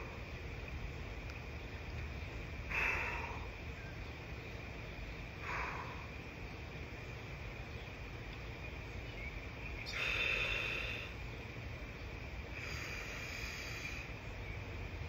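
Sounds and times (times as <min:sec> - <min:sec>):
insects buzzing: 0:00.0 - 0:15.0
low outdoor rumble: 0:00.0 - 0:15.0.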